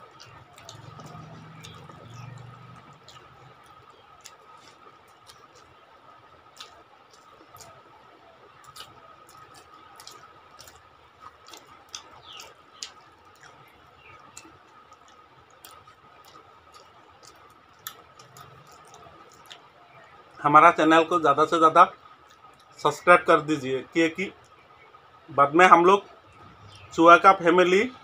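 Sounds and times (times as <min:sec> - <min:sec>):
chewing and lip smacks: 0:00.0 - 0:20.4, 0:21.9 - 0:22.9, 0:24.2 - 0:25.2
people eating with fingers: 0:00.0 - 0:23.4.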